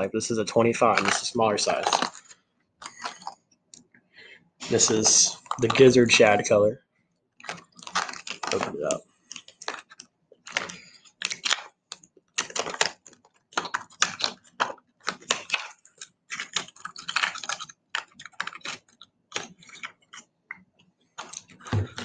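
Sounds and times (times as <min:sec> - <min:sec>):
plastic packaging crinkling: 0:00.5 - 0:03.4, 0:04.6 - 0:06.6, 0:07.4 - 0:20.6.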